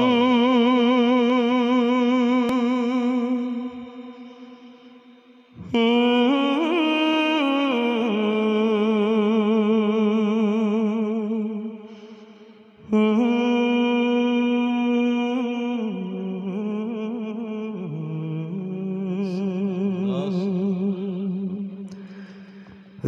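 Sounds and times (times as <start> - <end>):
man singing into microphone: 0.0 - 4.0, 5.6 - 11.6, 12.8 - 21.6.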